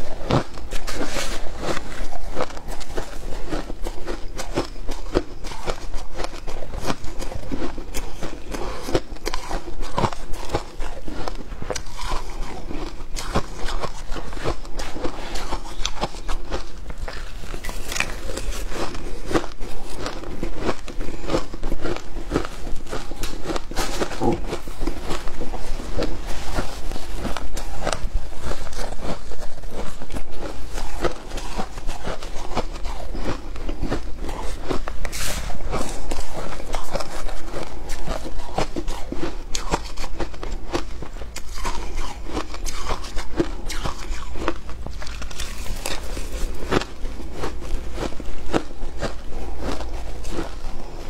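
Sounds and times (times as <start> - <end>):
crunching shaved ice: 0.0 - 51.0.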